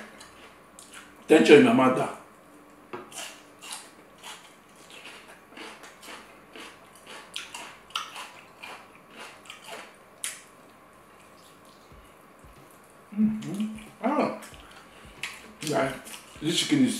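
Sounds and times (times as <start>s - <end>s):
person chewing crunchy food: 0.0s - 1.2s, 3.0s - 12.8s, 13.4s - 16.7s.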